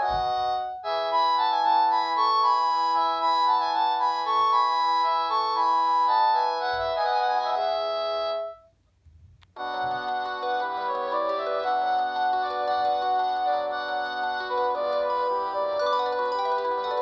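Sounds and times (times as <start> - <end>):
polyphonic ringtone melody: 0.0 - 8.7, 9.6 - 17.0.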